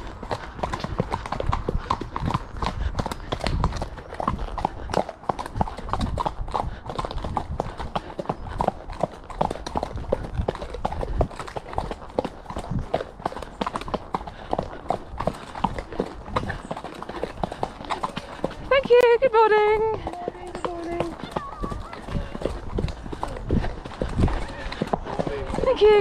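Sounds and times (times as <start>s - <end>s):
horse hooves on dirt: 0.0s - 26.0s.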